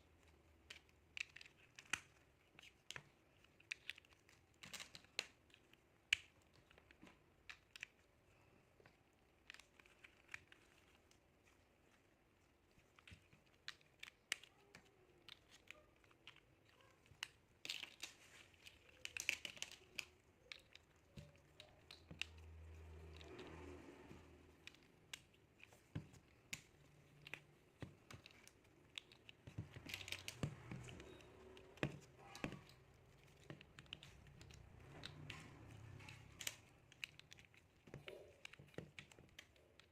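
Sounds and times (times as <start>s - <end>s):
crinkling rustle: 0.0s - 39.9s
plastic bricks clicking: 0.2s - 11.2s, 12.6s - 23.8s, 24.4s - 39.9s.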